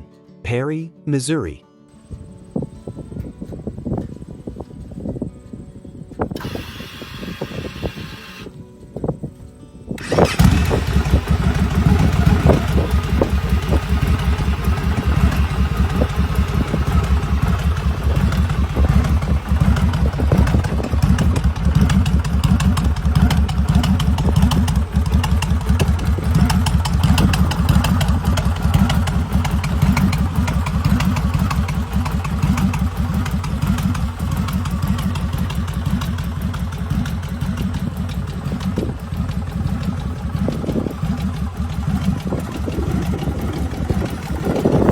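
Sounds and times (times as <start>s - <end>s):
motorcycle engine idling: 6.3s - 8.6s, 10.0s - 44.9s.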